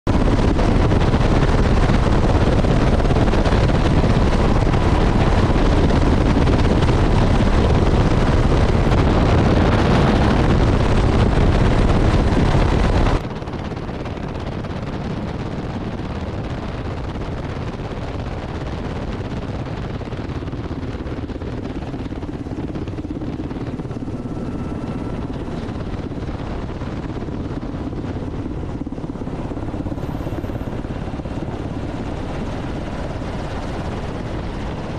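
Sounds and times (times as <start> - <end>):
helicopter engine and rotor: 0.1 - 34.9
wind buffeting microphone: 0.1 - 34.9.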